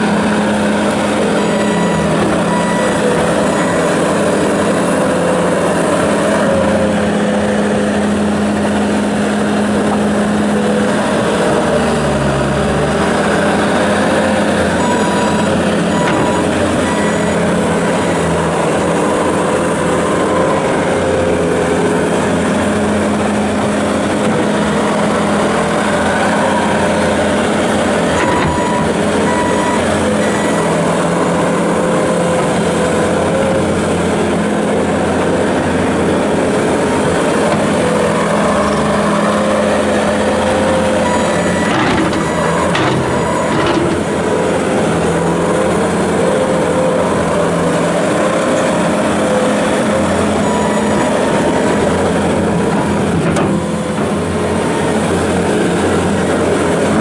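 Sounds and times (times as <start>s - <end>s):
diesel engine running: 0.0s - 57.0s
loader dumping and digging dirt: 0.0s - 57.0s.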